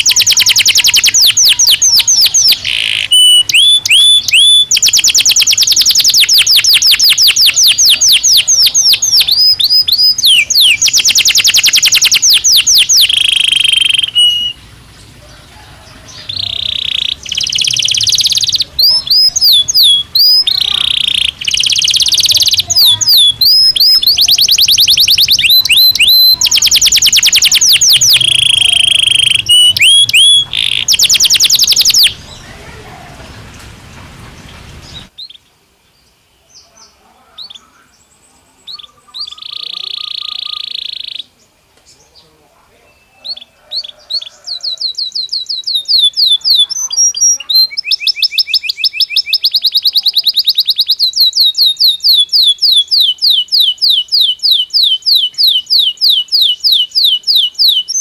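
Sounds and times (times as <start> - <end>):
canary singing trills: 0.0 - 33.7, 36.2 - 58.0.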